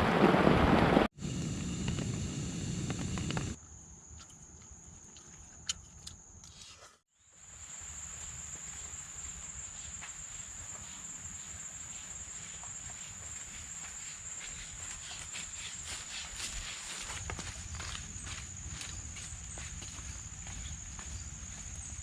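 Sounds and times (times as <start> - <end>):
insects droning: 1.2 - 6.6, 7.2 - 22.0
outdoor rustle: 1.3 - 22.0.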